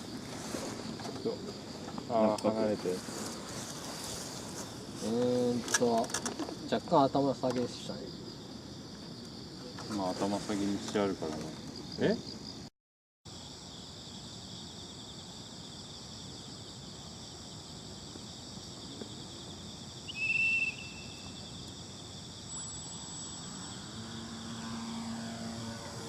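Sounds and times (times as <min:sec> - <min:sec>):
crickets and insects chirping: 0:00.0 - 0:12.7, 0:13.3 - 0:26.0.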